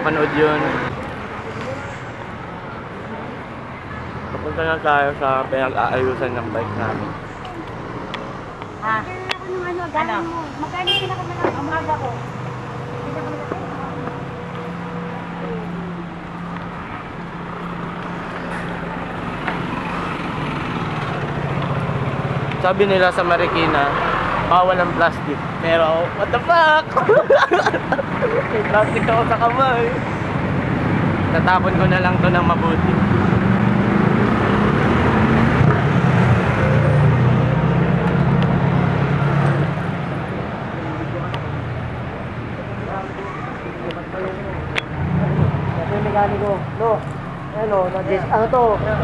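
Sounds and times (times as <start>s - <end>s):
street traffic: 0.0s - 49.0s
vehicle engine humming: 0.0s - 49.0s.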